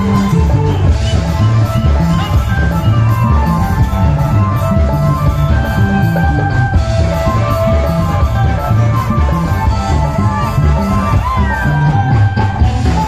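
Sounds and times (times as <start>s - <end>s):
loud stage music over speakers: 0.0s - 13.0s.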